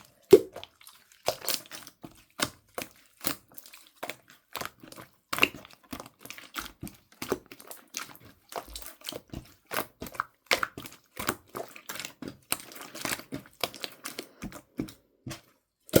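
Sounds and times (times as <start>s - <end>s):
slime squished by hand: 0.0s - 16.0s.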